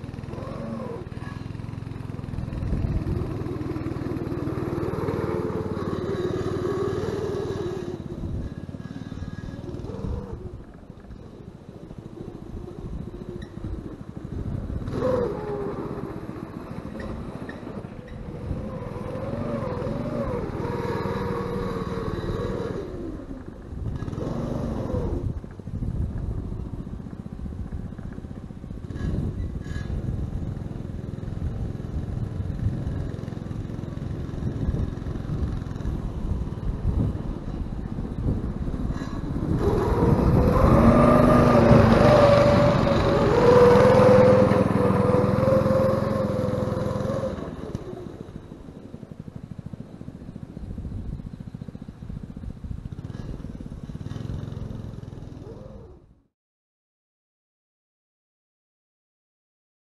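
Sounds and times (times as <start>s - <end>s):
go-kart engine running: 0.0s - 56.2s.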